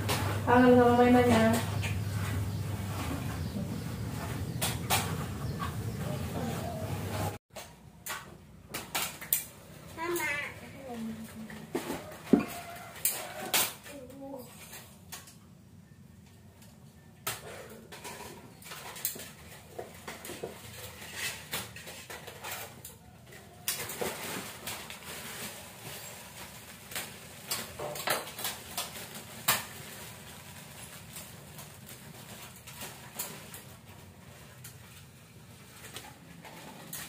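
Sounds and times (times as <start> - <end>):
kitchen items clicking and clattering: 0.0 - 15.5, 16.6 - 37.0.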